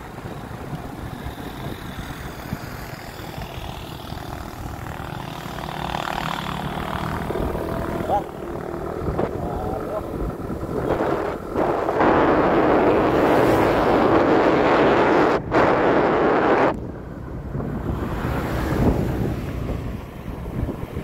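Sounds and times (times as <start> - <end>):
road noise: 0.0 - 21.0
vehicle engine: 0.0 - 21.0
wind buffeting microphone: 0.0 - 21.0.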